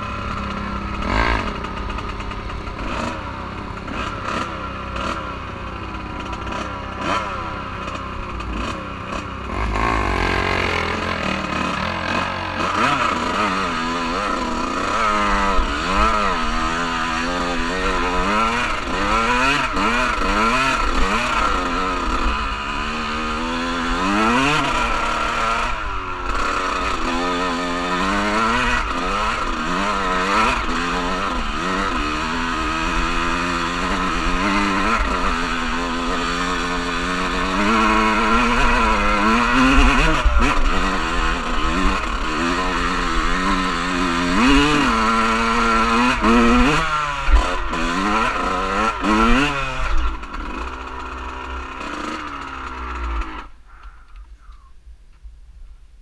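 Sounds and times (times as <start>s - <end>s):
off-road engines revving: 0.0s - 54.7s.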